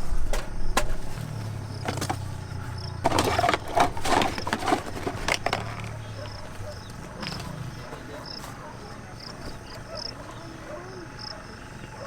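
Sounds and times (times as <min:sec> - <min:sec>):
firewood knocking and clattering: 0:00.0 - 0:10.0
crickets chirping: 0:00.0 - 0:12.0.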